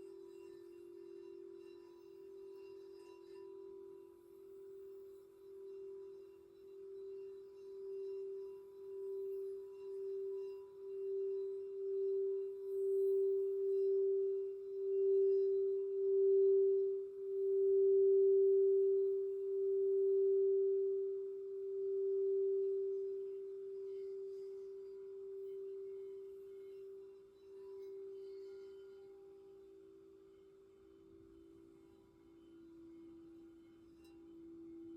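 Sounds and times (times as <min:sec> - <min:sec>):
lower singing bowl tone: 0:00.0 - 0:34.9
singing bowl ringing tone: 0:00.0 - 0:34.9.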